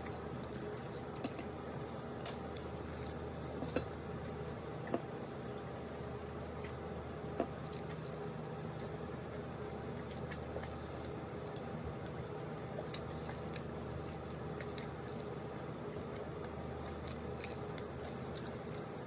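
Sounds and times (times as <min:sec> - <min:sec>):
low steady hum: 0:00.0 - 0:19.0
person chewing: 0:00.4 - 0:05.1, 0:06.4 - 0:19.0.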